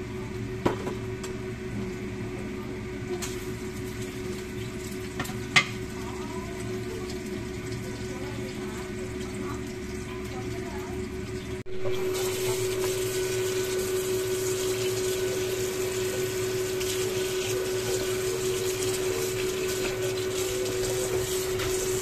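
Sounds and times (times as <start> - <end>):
tap water running into basin: 3.1 - 22.0.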